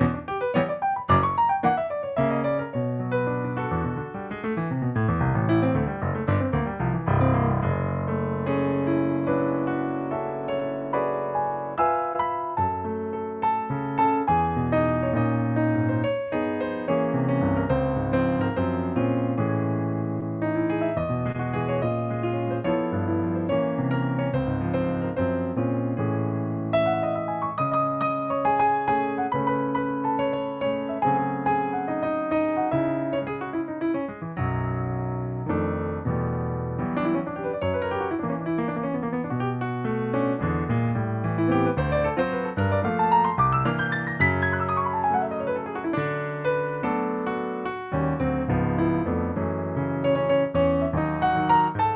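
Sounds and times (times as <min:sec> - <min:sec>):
digital piano playing chords: 0:00.0 - 0:51.9.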